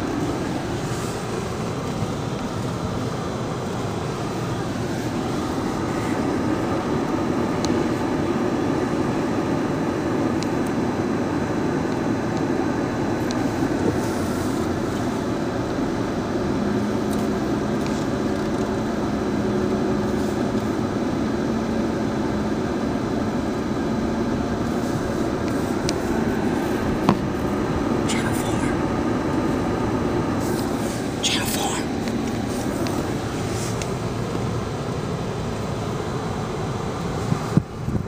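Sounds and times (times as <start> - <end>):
car road and engine noise: 0.0 - 38.0.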